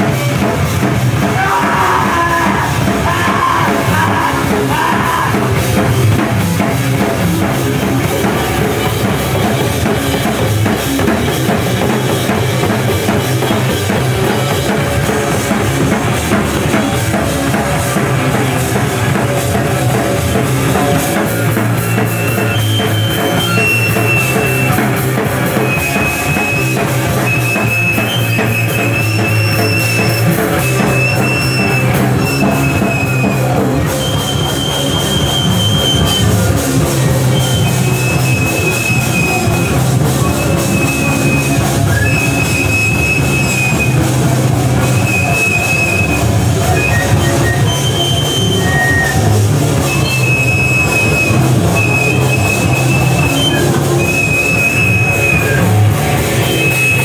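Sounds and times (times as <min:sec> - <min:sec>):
punk band playing live: 0:00.0 - 0:57.0
high held notes: 0:00.3 - 0:57.0.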